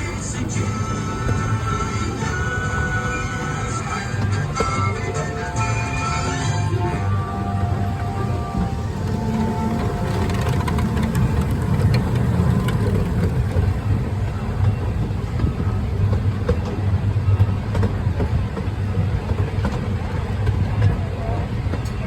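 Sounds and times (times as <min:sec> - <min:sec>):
small train rumbling on track: 0:00.0 - 0:22.0
wheels clicking and rattling: 0:00.0 - 0:22.0.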